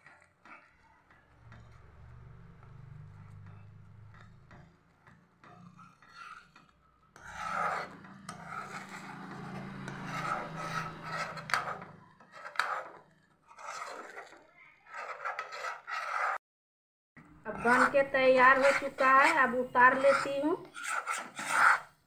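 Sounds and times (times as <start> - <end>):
metal spoon scraping a pan: 0.0 - 16.4, 17.5 - 22.0.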